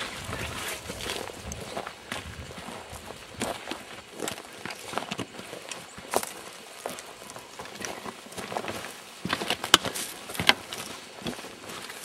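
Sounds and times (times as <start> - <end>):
footsteps crunching on dry ground: 0.0 - 12.0.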